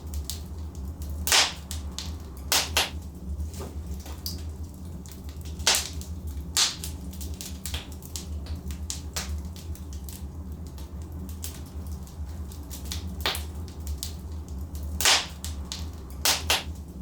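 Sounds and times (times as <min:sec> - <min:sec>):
logs crackling and popping: 0:00.0 - 0:17.0
steady low rumble: 0:00.0 - 0:17.0.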